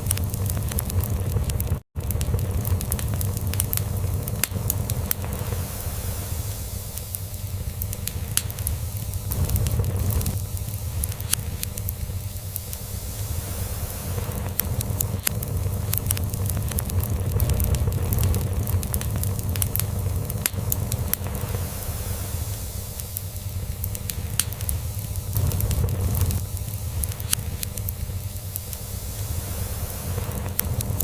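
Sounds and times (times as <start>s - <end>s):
log fire crackling: 0.0s - 31.0s.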